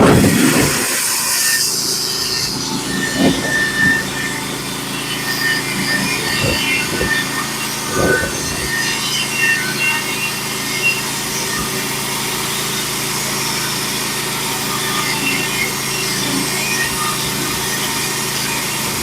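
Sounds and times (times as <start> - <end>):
band sawmill cutting log: 0.0 - 19.0.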